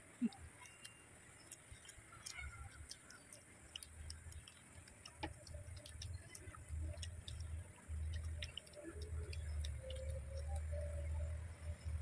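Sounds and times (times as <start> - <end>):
people chewing crispy food: 0.0 - 12.0.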